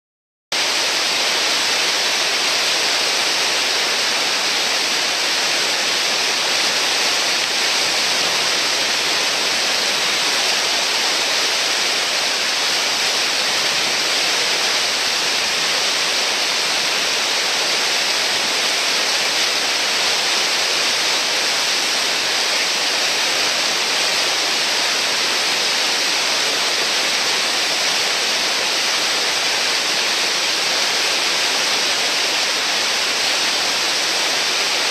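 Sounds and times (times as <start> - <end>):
whitewater rushing: 0.6 - 34.9.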